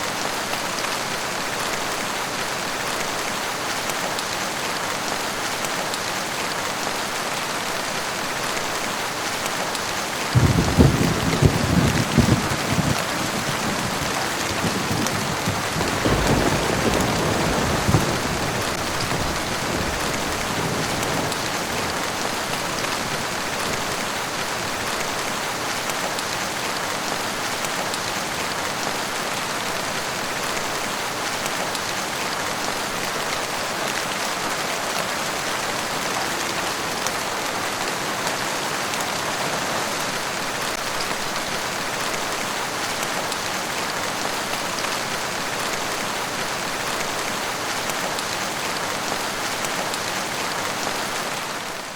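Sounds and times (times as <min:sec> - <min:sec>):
steady rainfall: 0:00.0 - 0:51.9.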